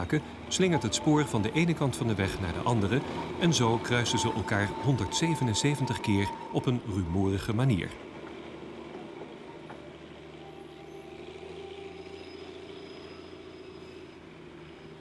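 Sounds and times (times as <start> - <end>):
diesel locomotive engine hum: 0.0 - 15.0.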